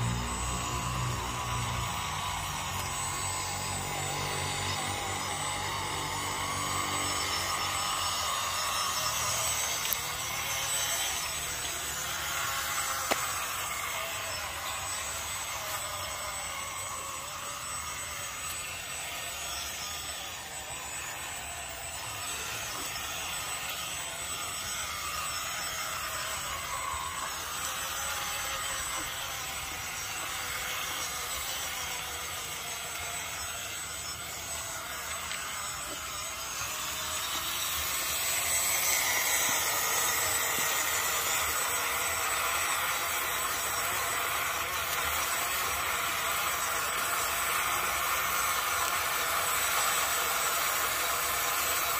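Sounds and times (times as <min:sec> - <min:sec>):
small electric motor whining: 0:00.0 - 0:51.9.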